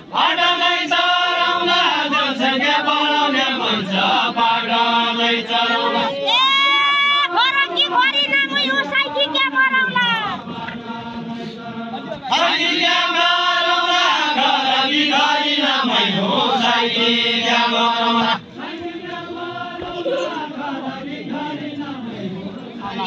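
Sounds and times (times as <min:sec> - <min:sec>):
folk voices chanting: 0:00.0 - 0:23.0.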